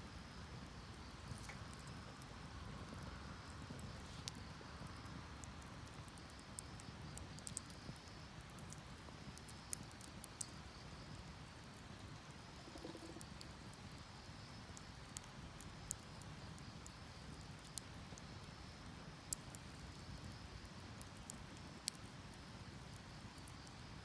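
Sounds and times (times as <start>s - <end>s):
insects trilling: 0.2s - 24.0s
wood fire crackling and popping: 0.2s - 24.0s.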